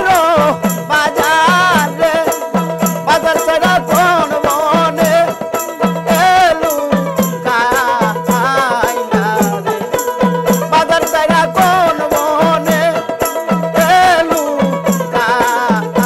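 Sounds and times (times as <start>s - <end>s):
man singing: 0.0s - 16.0s
plucked lute: 0.0s - 16.0s
jingling ring: 0.1s - 16.0s.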